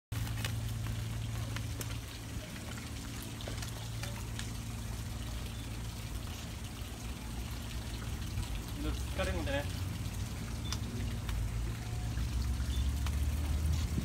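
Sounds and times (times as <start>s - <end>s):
water trickling: 0.1s - 14.0s.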